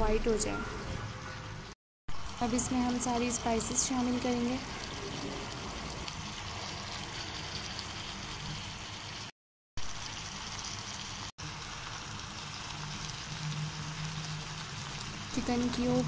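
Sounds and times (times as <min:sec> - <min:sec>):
chicken sizzling in a frying pan: 0:02.1 - 0:16.0.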